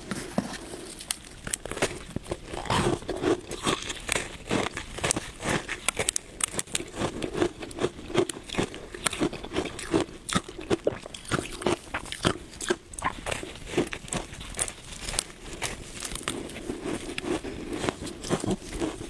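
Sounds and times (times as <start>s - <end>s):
ice crunching while chewed: 0.0s - 19.0s.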